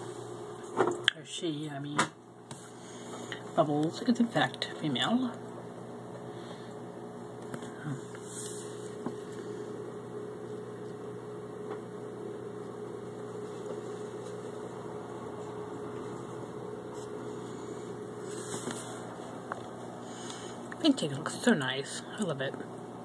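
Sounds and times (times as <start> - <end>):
aquarium filter motor humming: 0.0 - 23.0.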